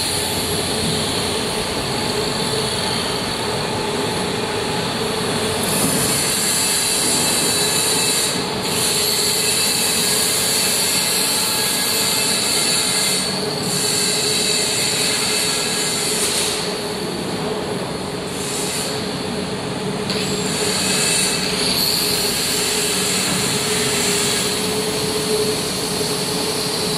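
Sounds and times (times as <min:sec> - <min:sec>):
workshop machinery hum and whine: 0:00.0 - 0:26.9.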